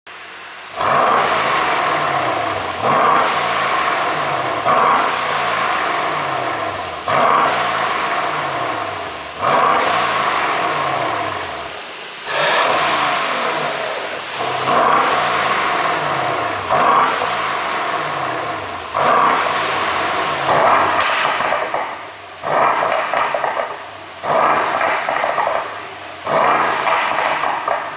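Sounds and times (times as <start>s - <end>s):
car engine revving: 0.1s - 27.9s
exhaust crackles and pops: 0.8s - 27.9s.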